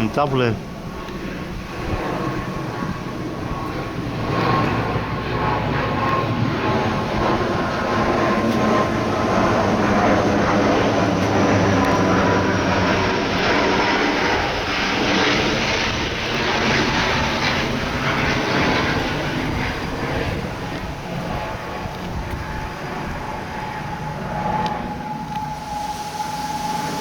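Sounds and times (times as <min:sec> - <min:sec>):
turboprop plane passing: 0:00.0 - 0:27.0.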